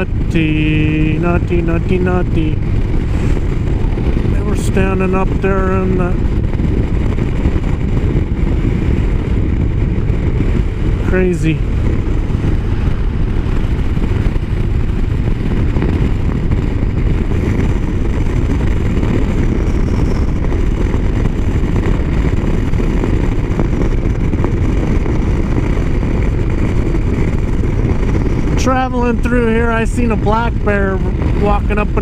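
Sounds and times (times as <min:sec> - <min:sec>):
motorcycle engine running: 0:00.0 - 0:32.0
wind and road noise: 0:00.0 - 0:32.0.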